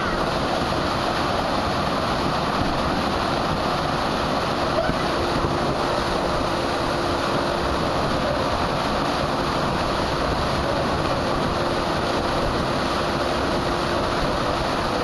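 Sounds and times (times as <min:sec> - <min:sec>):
water pouring into pool: 0:00.0 - 0:15.0.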